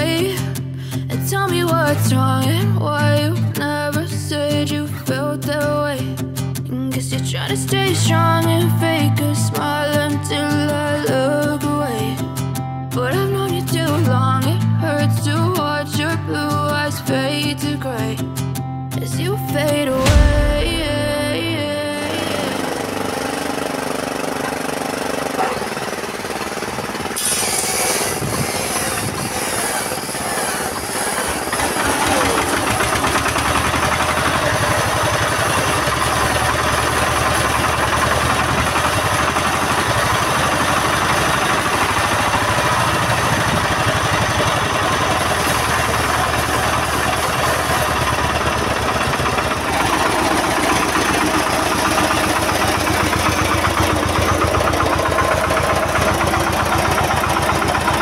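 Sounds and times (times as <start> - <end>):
diesel engine chugging: 0.0 - 6.2, 7.0 - 12.4, 19.2 - 58.0.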